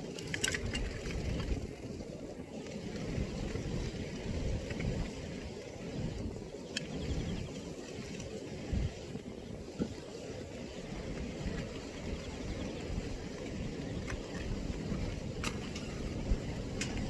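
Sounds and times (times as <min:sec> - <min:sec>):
gusty wind on microphone: 0:00.0 - 0:17.0.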